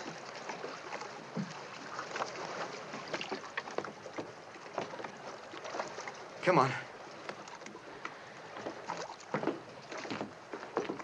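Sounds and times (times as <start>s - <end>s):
water lapping against hull: 0.0s - 11.0s.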